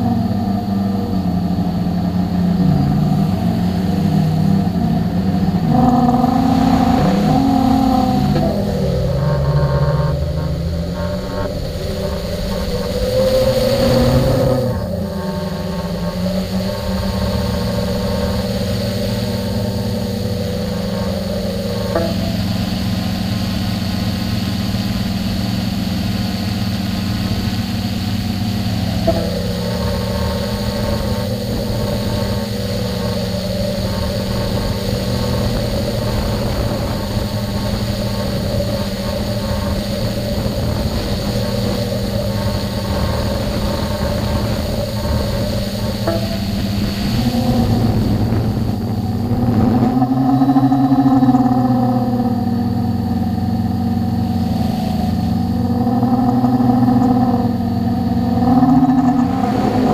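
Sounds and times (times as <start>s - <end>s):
drone motors humming: 0.0s - 59.9s.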